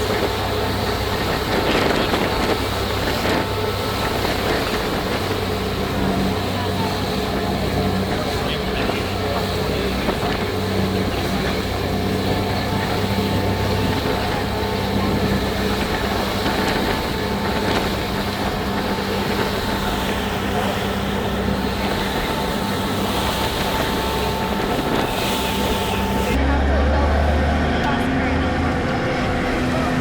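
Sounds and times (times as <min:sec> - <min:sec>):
ferry engines droning: 0:00.0 - 0:30.0.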